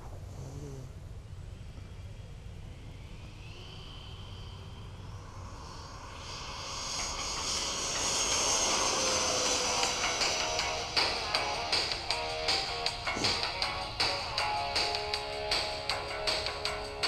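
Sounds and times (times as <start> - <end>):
electric ducted fans whining: 0.0 - 17.0.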